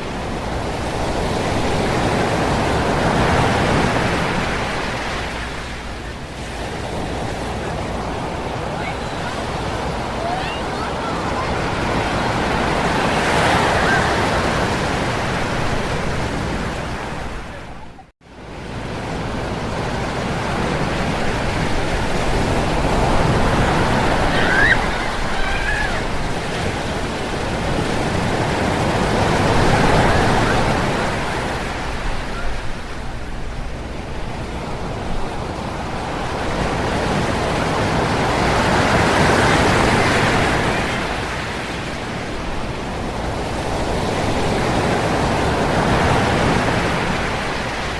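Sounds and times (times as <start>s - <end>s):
ocean surf breaking on beach: 0.0s - 47.9s.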